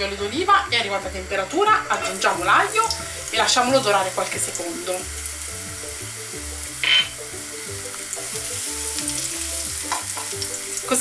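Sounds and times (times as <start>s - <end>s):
garlic sizzling in oil: 0.0s - 11.0s
soft background music: 0.0s - 11.0s.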